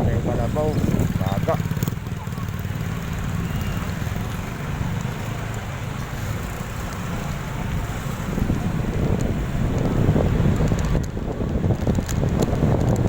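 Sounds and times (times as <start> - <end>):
motorbike rumble: 0.0 - 13.0
wind buffeting microphone: 0.0 - 13.0.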